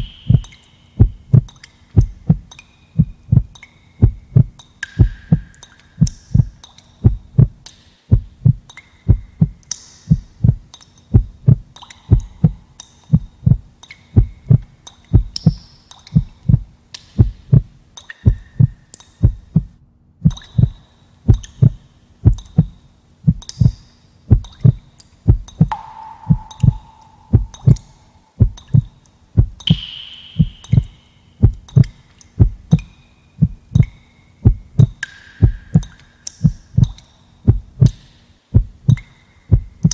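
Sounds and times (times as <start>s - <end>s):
heartbeat thumps: 0.0s - 15.6s, 16.2s - 39.9s.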